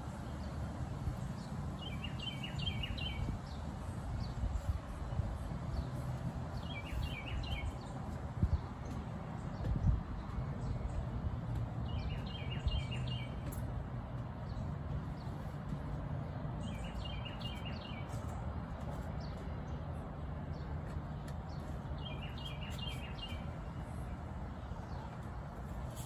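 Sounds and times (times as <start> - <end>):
birds chirping: 0.0 - 26.0
songbird singing: 0.0 - 26.0.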